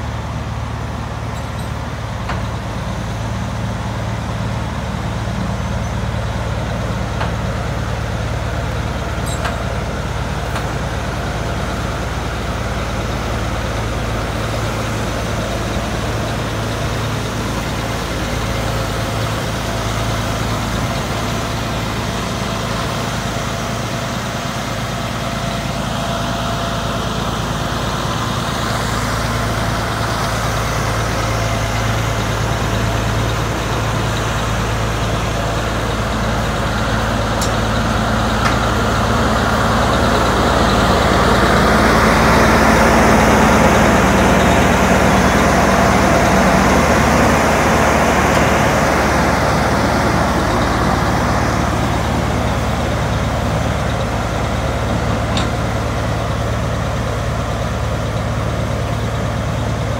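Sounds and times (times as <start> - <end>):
diesel engines humming: 0.0 - 59.9
rush of engine noise: 0.0 - 59.9.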